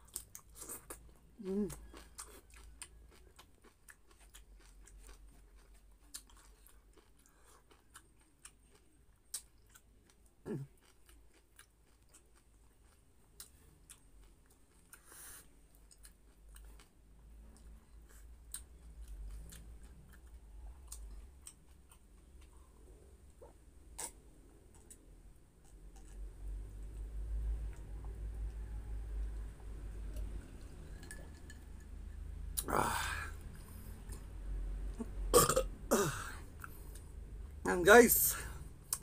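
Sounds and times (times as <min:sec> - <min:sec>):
chewing and mouth sounds: 0:00.0 - 0:35.6.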